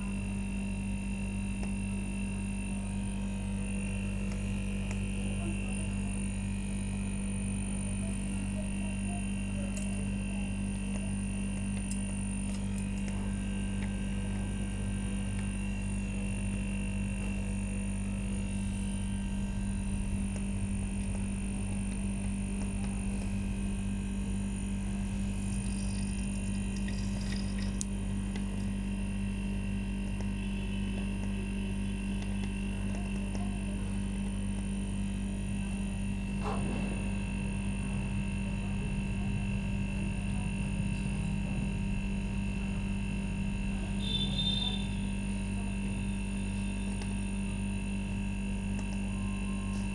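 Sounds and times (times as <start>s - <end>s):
refrigerator compressor humming: 0.0s - 49.9s.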